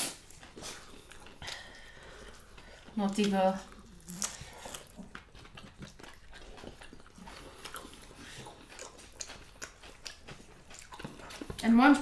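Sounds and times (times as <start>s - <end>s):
faint chewing and mouth clicks: 0.0s - 12.0s.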